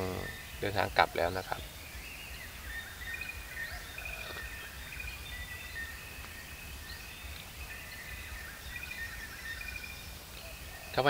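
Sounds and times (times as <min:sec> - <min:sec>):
high chirping calls: 0:00.0 - 0:11.0.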